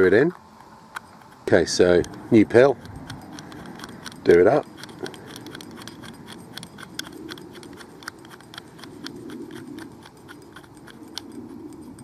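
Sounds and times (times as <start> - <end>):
small metallic clicks: 0.0 - 12.0.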